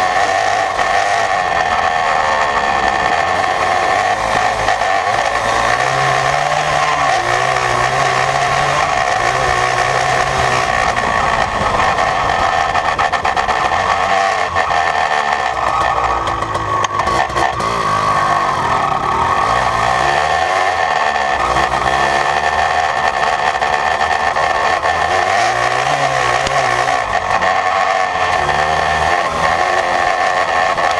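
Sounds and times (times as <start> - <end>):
two-stroke engine revving: 0.0 - 30.9.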